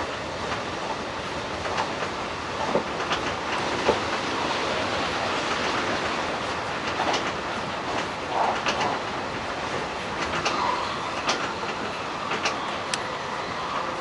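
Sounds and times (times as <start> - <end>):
irregular rail clicks: 0.0 - 14.0
train wheels rumbling on rails: 0.0 - 14.0.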